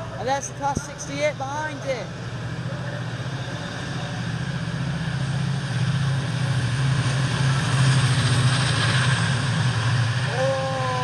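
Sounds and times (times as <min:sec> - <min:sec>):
diesel locomotive drone: 0:00.0 - 0:11.0.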